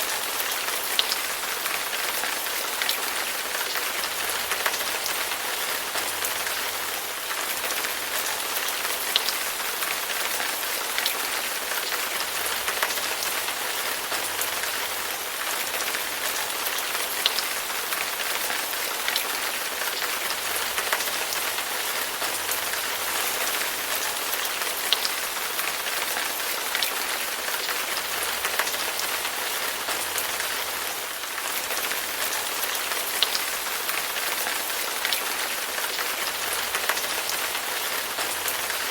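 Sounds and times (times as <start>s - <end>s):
raindrops ticking on surface: 0.0s - 38.9s
steady rain falling: 0.0s - 38.9s.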